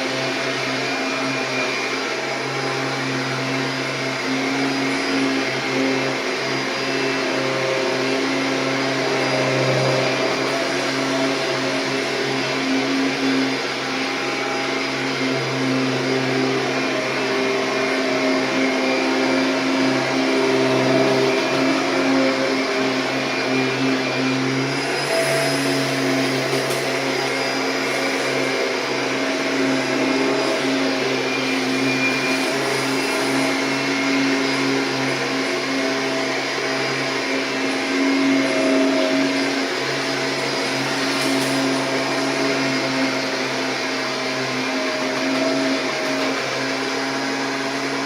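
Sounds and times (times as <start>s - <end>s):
upright vacuum cleaner running: 0.0s - 48.0s.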